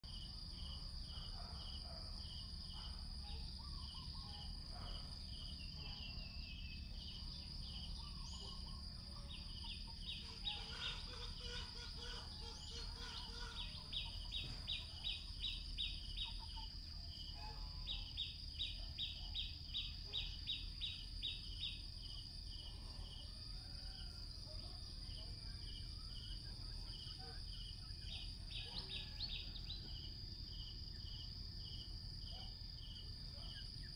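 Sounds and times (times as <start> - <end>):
insect chirps: 0.0 - 33.9
insects droning: 0.0 - 33.9
rapid insect chirping: 0.0 - 33.9.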